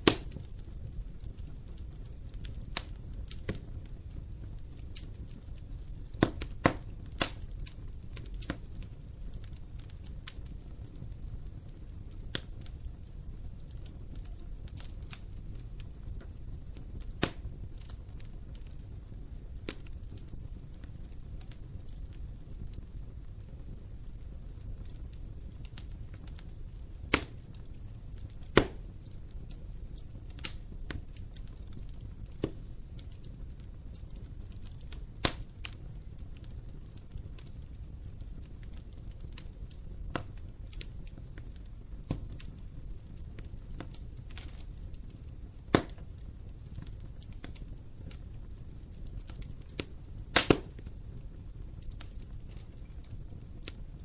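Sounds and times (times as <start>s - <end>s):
burning wood popping and crackling: 0.0s - 54.0s
low rumble of flame: 0.0s - 54.0s.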